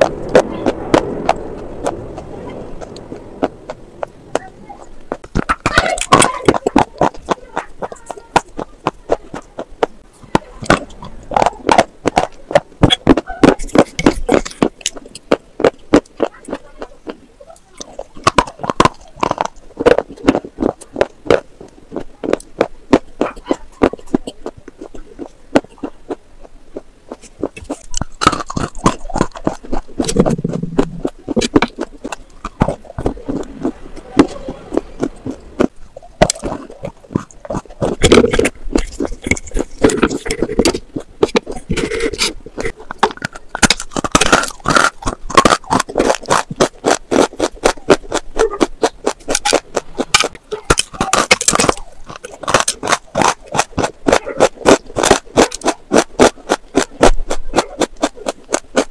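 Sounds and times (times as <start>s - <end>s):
crunching and chewing: 0.0s - 58.9s.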